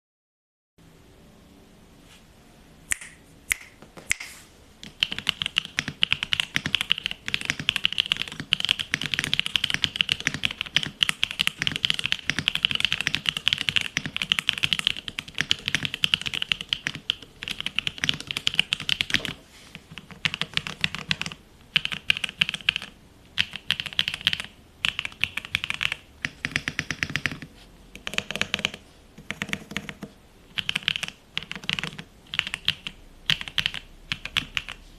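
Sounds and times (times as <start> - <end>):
mechanical keyboard typing: 4.8 - 34.8.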